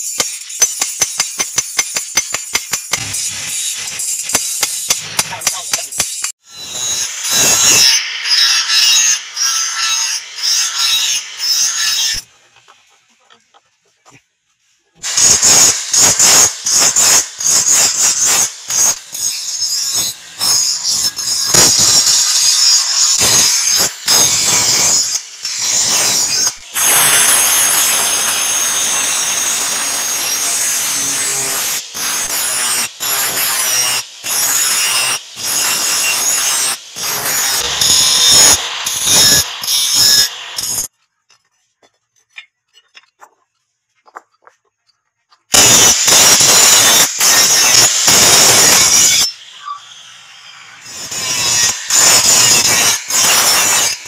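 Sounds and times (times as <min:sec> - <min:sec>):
angle grinder cutting steel: 0:00.0 - 0:12.4, 0:15.0 - 0:40.9, 0:45.5 - 0:54.0.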